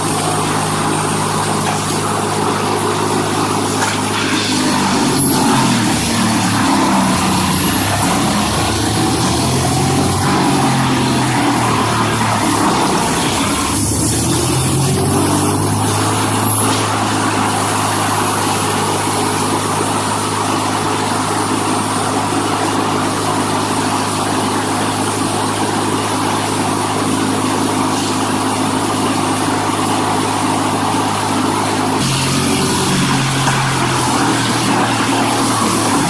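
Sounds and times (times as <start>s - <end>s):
heavy machine engine droning: 0.0s - 36.0s.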